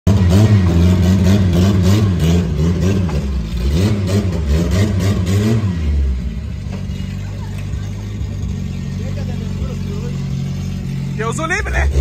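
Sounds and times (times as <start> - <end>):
car engine revving: 0.1 - 12.0.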